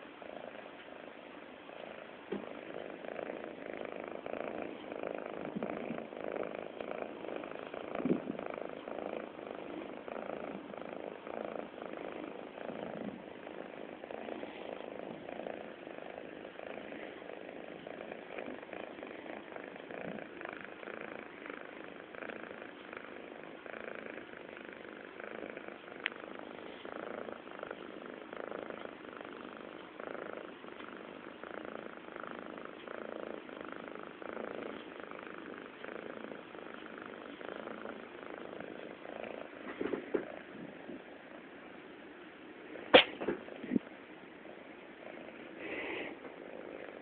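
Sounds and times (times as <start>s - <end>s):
cat purring loudly: 0.0s - 47.0s.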